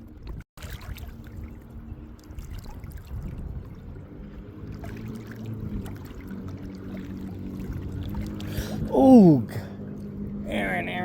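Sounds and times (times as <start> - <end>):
lake water lapping: 0.6 - 11.0.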